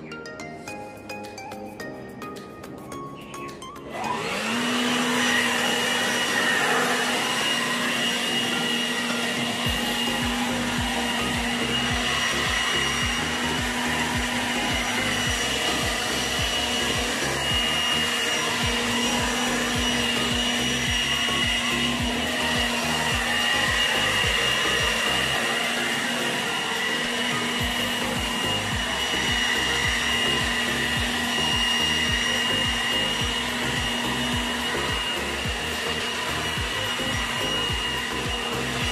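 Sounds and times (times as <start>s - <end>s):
leaf blower running: 3.8s - 38.9s.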